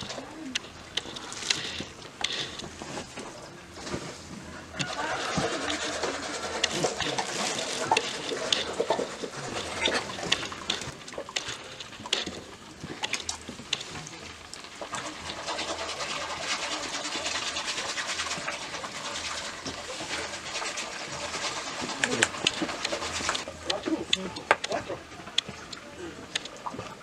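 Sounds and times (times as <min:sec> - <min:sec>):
ladle scooping in metal pot: 0:00.0 - 0:24.8
plastic bag rustling: 0:00.0 - 0:25.1
liquid splashing: 0:00.0 - 0:27.0.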